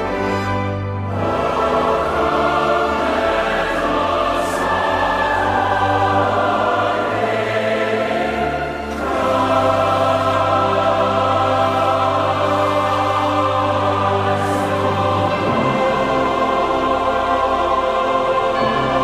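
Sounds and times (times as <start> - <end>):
choir singing chords: 0.0 - 19.0.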